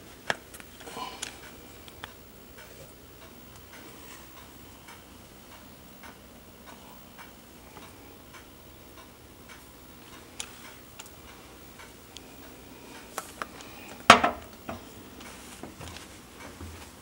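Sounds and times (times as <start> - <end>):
faint steady ticking: 0.0 - 17.0.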